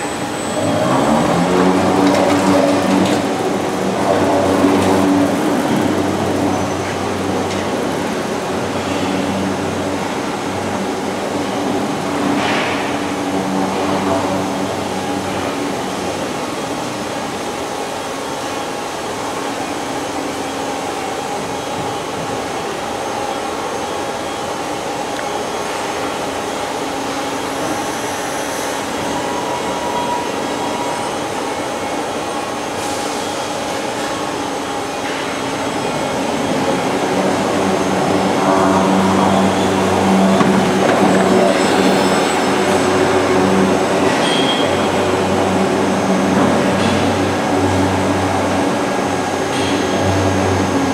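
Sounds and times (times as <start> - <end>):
gantry motors and wheels running: 0.0 - 50.9
machine hum: 0.0 - 50.9.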